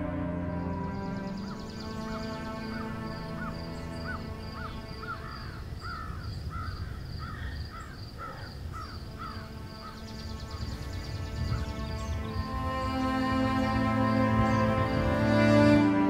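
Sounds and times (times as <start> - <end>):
soft music drone: 0.0 - 5.8, 8.6 - 16.0
bird calling: 0.0 - 16.0.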